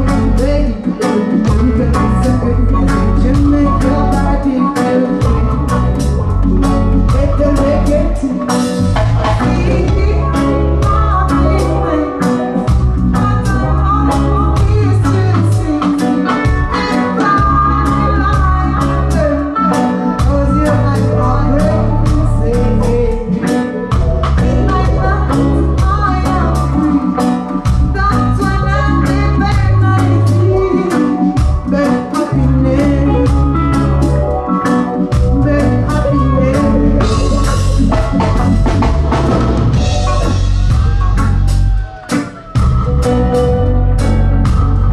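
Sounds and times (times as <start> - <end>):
woman singing into a microphone: 0.0 - 6.3, 6.9 - 37.9
deep bass line: 0.0 - 15.8, 16.4 - 19.5, 20.2 - 30.8, 31.4 - 44.9
reggae band playing: 0.0 - 44.9.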